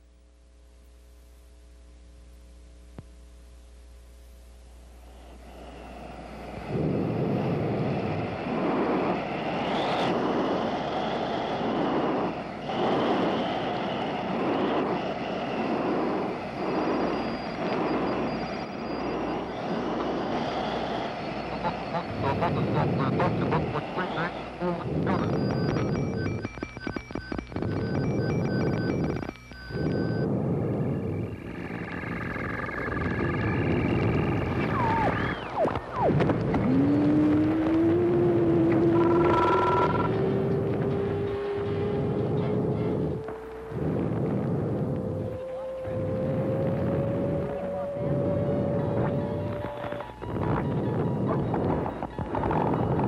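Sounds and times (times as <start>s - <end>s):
heavy pulsing mechanical noise: 0.0s - 53.0s
high steady whine: 0.0s - 53.0s
low hum: 0.0s - 53.0s.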